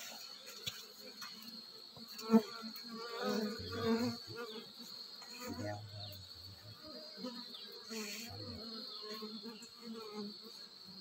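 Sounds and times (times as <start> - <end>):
bees buzzing: 0.4 - 11.0.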